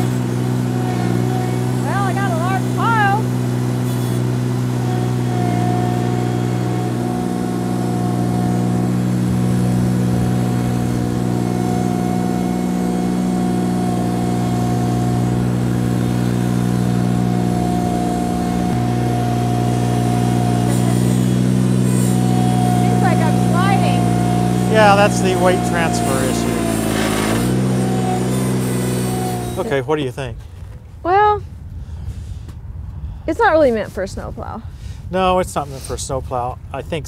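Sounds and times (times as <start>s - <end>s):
tractor engine running: 0.0s - 29.9s
thin steady whine: 0.0s - 30.1s.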